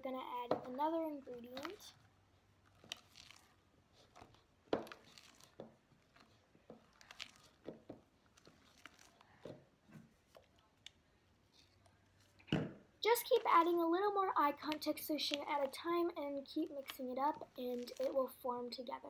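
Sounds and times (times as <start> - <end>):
spatula squelching in slime: 1.1 - 12.0, 13.1 - 19.0.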